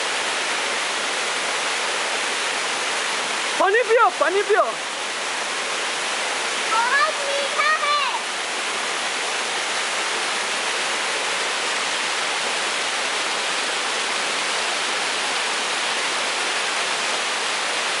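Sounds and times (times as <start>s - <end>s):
waterfall pouring: 0.0s - 18.0s.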